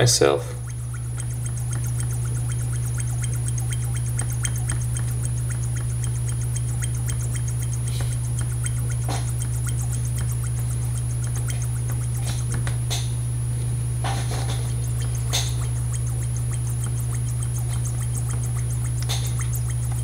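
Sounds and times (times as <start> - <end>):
steady low hum: 0.0 - 20.0
metal tool scratching and ticking: 0.5 - 13.1, 14.0 - 20.0.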